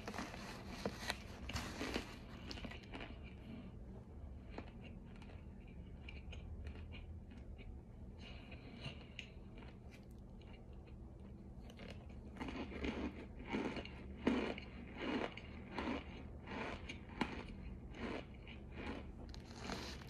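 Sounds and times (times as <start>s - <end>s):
chewing something crunchy: 0.0s - 20.0s
steady low hum: 0.0s - 20.0s.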